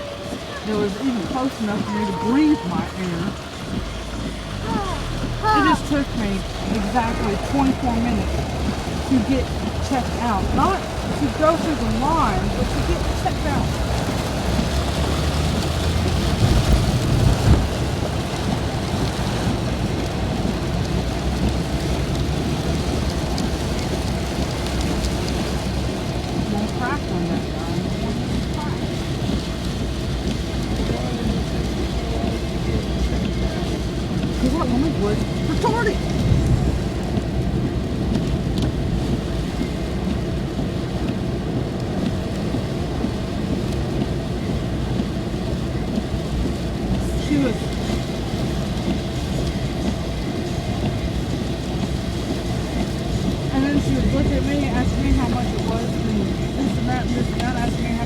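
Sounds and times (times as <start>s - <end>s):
low rumble: 0.0s - 58.0s
rain pattering on a car: 0.0s - 58.0s.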